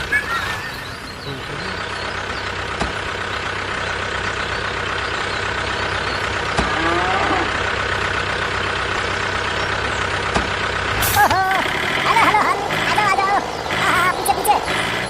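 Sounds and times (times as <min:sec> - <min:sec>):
chirping glides: 0:00.0 - 0:15.0
truck engine running: 0:00.0 - 0:15.0.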